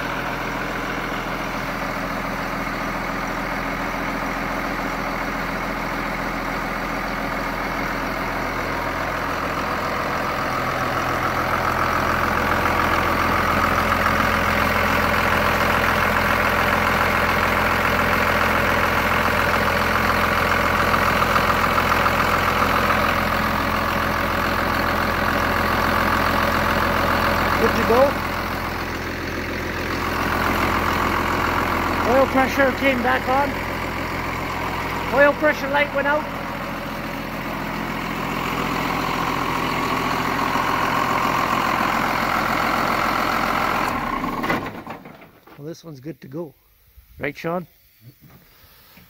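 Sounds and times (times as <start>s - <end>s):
tractor diesel engine idling: 0.0s - 47.6s.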